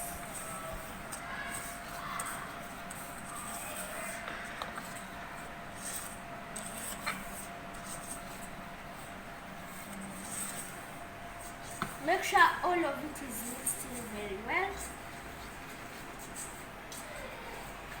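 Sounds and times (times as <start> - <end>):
stirring dry ingredients in bowl: 0.0 - 18.0.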